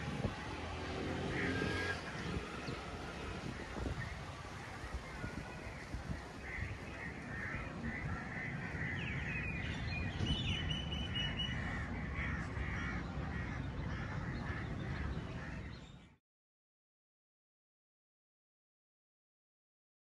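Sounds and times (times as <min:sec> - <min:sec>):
flock of birds calling: 0:00.0 - 0:16.2.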